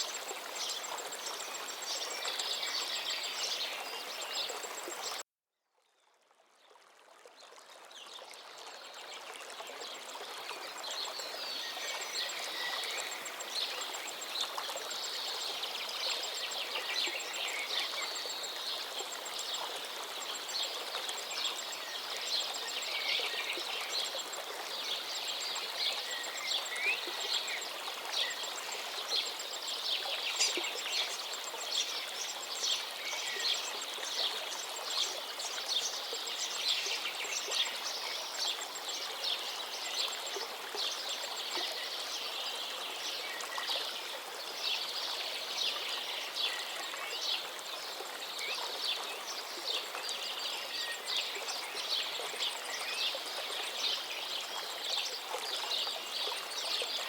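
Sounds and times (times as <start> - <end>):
forest river flowing: 0.0 - 5.2, 6.2 - 57.0.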